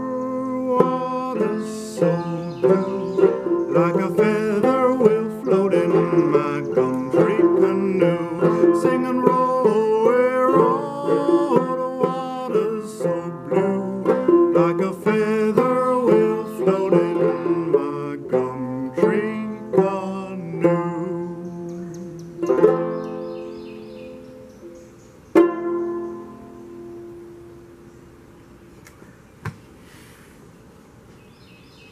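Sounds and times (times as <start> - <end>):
banjo plucked notes: 0.0 - 27.9.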